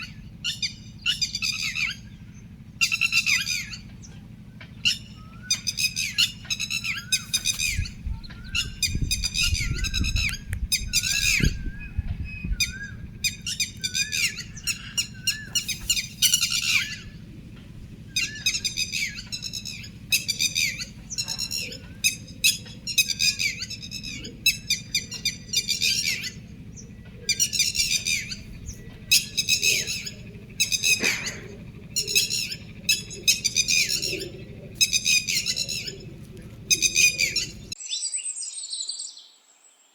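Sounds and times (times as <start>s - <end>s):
birds squawking harshly: 0.0s - 37.8s
low steady rumble: 0.0s - 37.8s
soft bird chirps: 0.0s - 39.9s.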